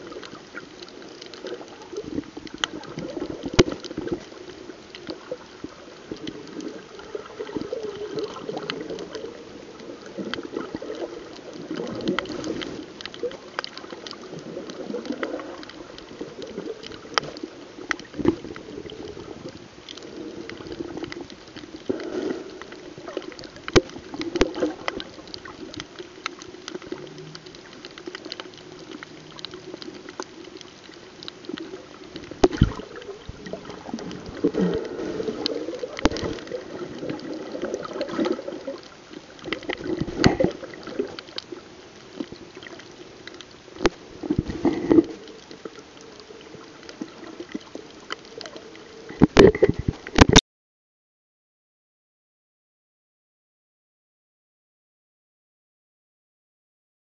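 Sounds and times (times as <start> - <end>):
muffled underwater sloshing: 0.0 - 50.4.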